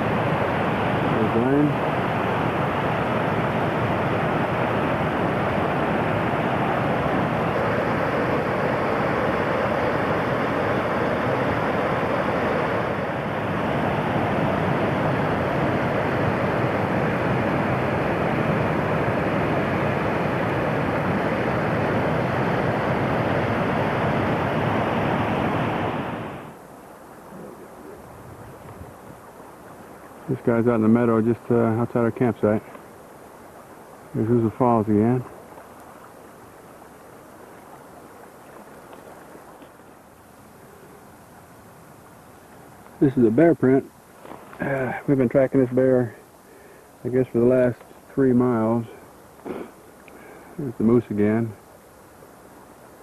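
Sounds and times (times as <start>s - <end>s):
running water rushing: 0.0s - 53.0s.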